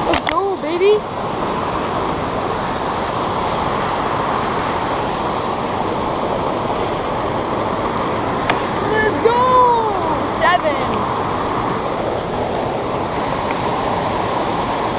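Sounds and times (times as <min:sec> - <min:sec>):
creek water rushing over fall: 0:00.0 - 0:14.9.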